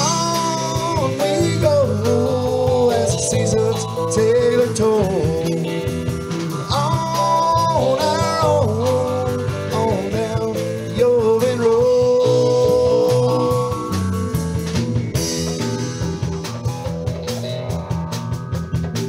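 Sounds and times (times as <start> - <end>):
country rock music with guitar: 0.0 - 19.0.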